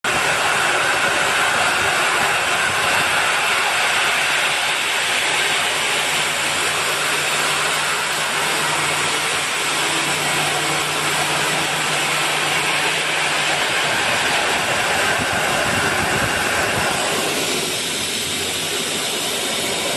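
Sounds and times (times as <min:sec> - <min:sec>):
low hum: 0:00.1 - 0:19.9
machine tool hissing: 0:00.1 - 0:19.9.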